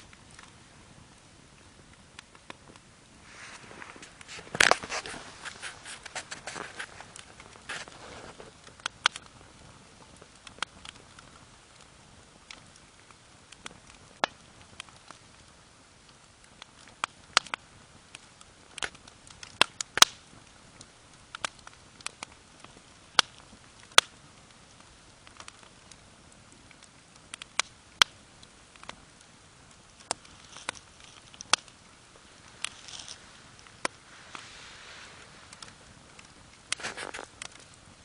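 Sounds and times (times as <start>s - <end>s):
faint rustle: 0.0s - 15.6s, 20.3s - 38.0s
campfire crackling and popping: 0.0s - 38.0s.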